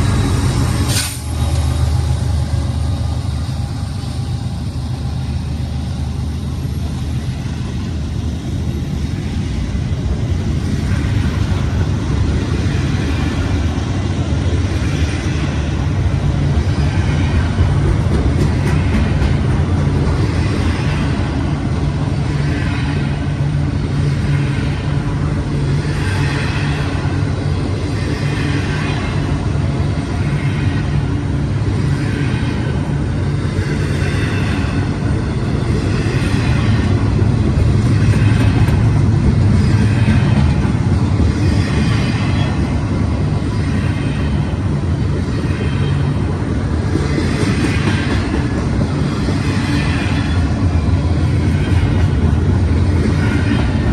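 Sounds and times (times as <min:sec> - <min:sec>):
freight train rumble: 0:00.0 - 0:53.9.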